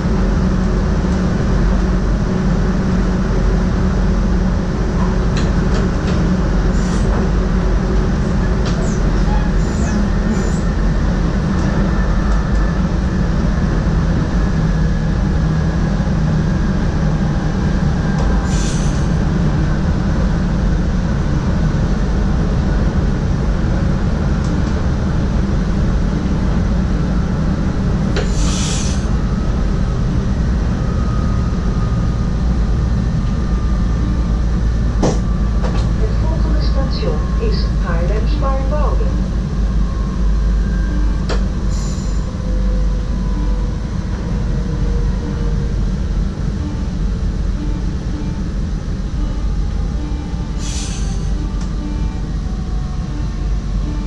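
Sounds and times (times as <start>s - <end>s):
train running gear rumbling: 0.0s - 54.0s.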